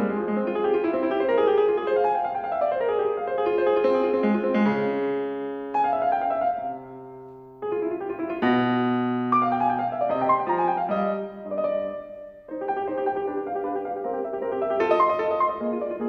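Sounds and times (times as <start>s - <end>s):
solo classical piano: 0.0s - 16.0s.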